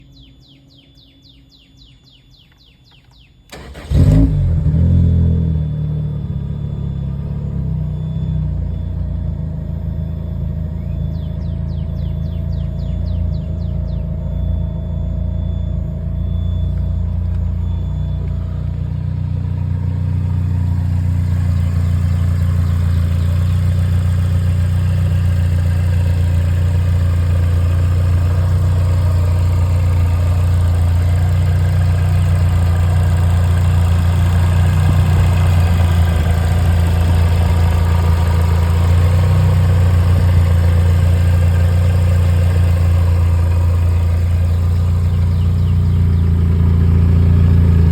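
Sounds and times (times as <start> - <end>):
car engine idling: 3.5 - 47.9.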